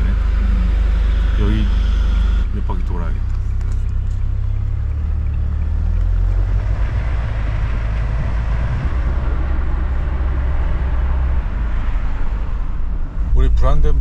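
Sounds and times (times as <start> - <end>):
engine and road noise rumble: 0.0 - 14.0.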